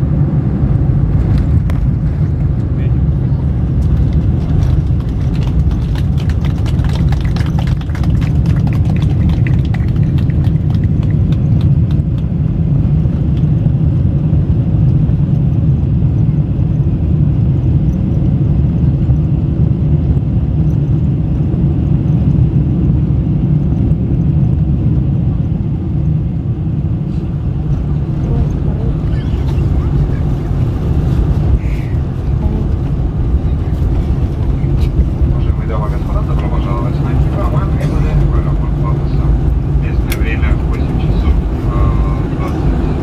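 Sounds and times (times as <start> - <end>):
airliner landing rumble: 0.0 - 43.0.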